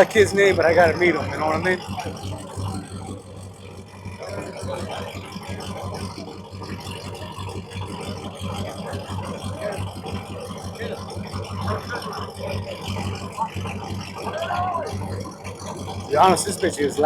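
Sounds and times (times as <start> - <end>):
car engine with loud exhaust: 0.0 - 17.0.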